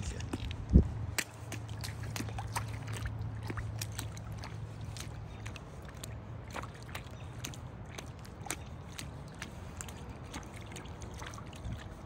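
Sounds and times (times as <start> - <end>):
boots splashing through puddle: 0.0 - 12.0.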